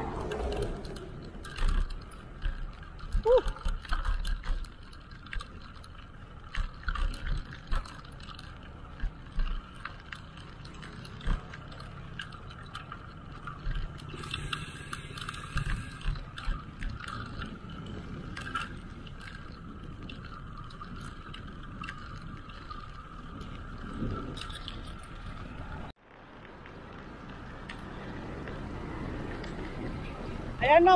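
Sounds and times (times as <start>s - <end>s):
bicycle parts clicking and rattling: 0.0s - 30.9s
road and wind noise: 0.0s - 30.9s.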